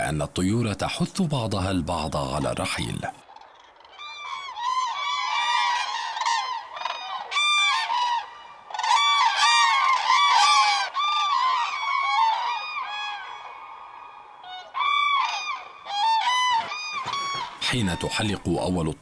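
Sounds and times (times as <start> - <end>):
cranes trumpeting: 3.2 - 18.5.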